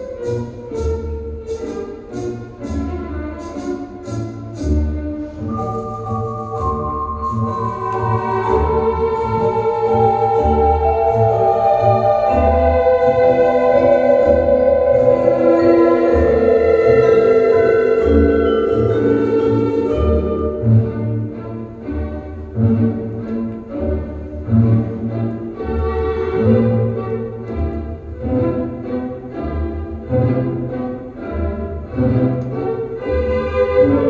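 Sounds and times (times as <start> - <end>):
sustained layered chords: 4.1 - 34.0.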